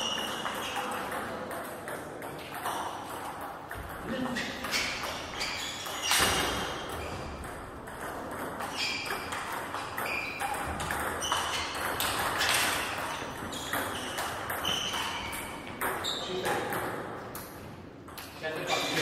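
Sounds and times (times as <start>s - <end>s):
ping pong ball bouncing on table: 0.0s - 18.4s
ping pong ball hitting rackets: 0.0s - 19.0s.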